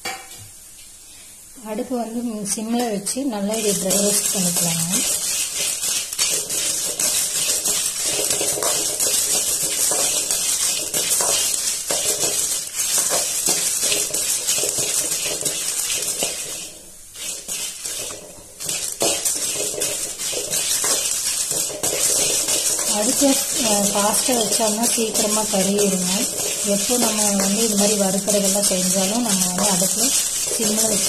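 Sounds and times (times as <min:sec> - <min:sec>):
seeds rattling in metal pan: 0:02.8 - 0:31.0.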